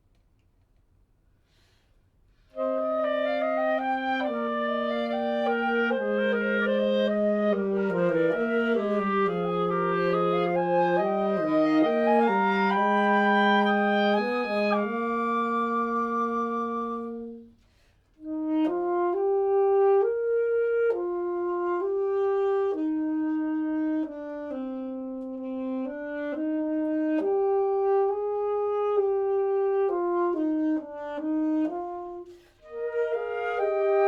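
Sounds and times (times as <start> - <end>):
woodwind trio playing slow piece: 2.4 - 34.0.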